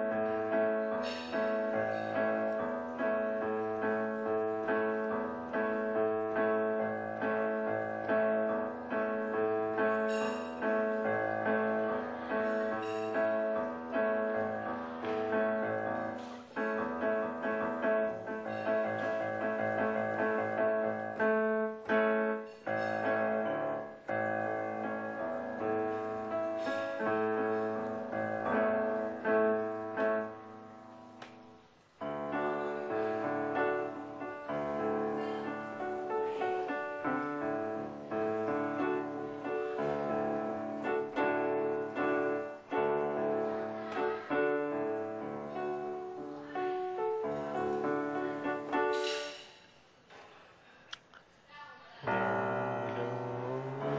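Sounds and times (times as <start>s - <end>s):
digital piano playing chords: 0.0s - 49.3s, 52.1s - 53.9s.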